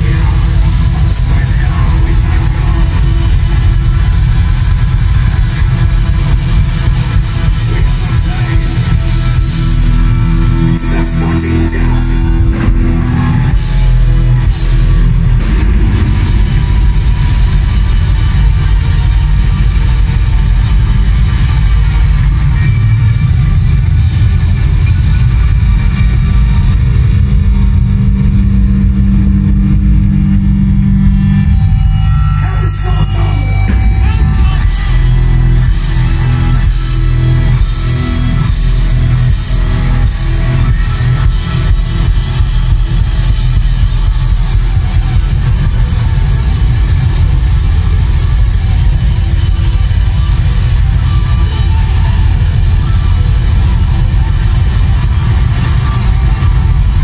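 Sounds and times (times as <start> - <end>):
electric guitars and bass: 0.0 - 57.0
fast drumming: 0.0 - 57.0
metal band playing live: 0.0 - 57.0.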